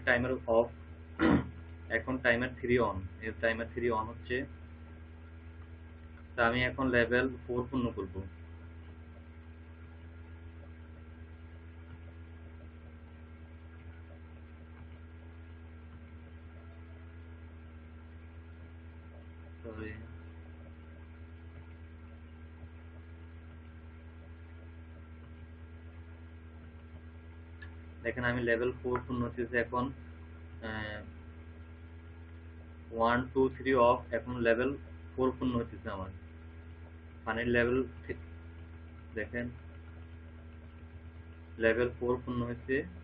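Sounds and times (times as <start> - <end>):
low electrical hum: 0.0 - 43.0.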